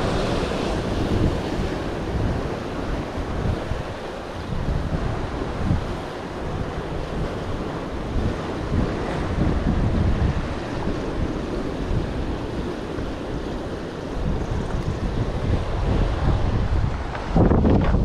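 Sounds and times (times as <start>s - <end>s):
surf breaking against rocks: 0.0s - 18.0s
wind buffeting microphone: 0.0s - 18.0s.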